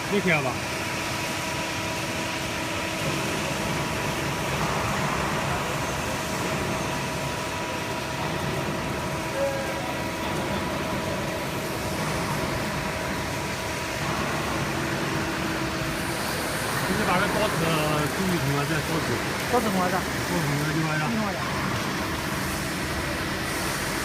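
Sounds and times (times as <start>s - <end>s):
hydraulic pump humming and whining: 0.0s - 24.0s.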